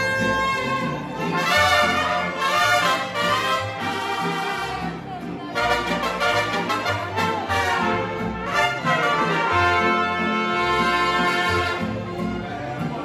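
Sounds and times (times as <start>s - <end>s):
brass music: 0.0s - 12.6s.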